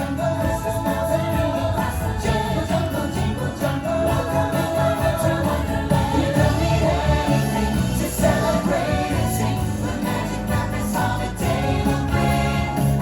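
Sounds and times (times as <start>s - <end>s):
christmas music with singing: 0.0s - 13.0s.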